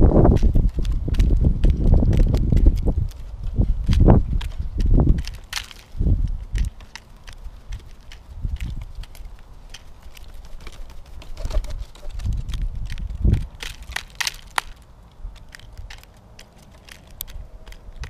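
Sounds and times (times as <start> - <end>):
bird pecking taps and crunches: 0.3 - 18.0.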